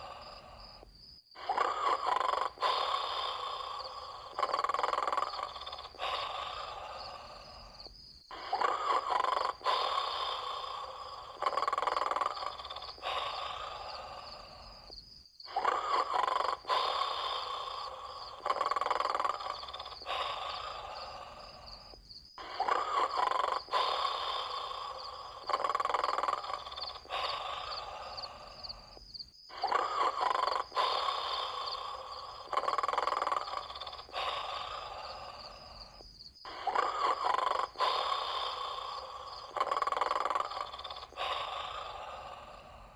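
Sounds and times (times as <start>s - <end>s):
person snoring: 0.0s - 0.8s, 1.4s - 42.9s.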